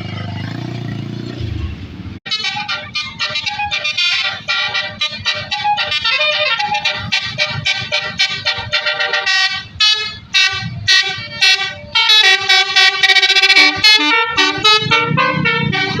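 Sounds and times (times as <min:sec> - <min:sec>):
multi-tone bus air horns melody: 0:02.3 - 0:16.0.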